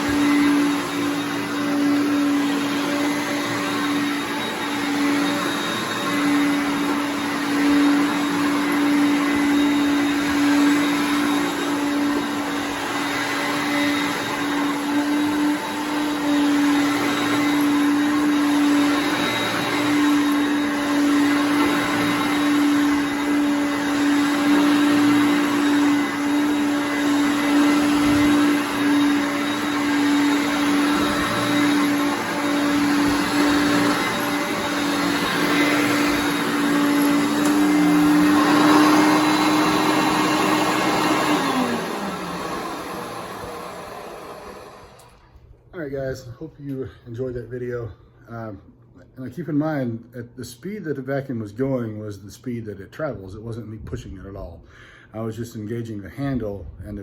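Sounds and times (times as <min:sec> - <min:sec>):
vacuum cleaner running: 0:00.0 - 0:46.4.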